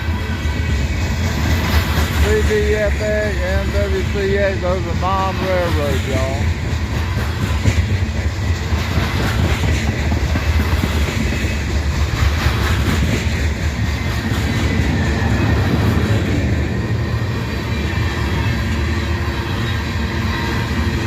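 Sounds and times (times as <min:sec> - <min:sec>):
train wheels rumbling on rails: 0:00.0 - 0:21.0
wheels clickety-clack on rail joints: 0:00.0 - 0:21.0.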